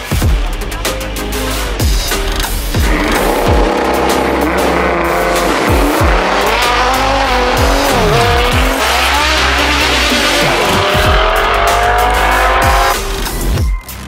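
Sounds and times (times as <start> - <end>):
bass-heavy background music: 0.0 - 14.0
car engines accelerating: 1.5 - 13.6.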